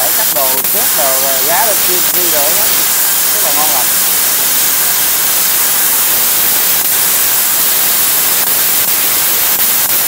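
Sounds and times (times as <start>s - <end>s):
plasma cutter hissing: 0.0s - 10.0s.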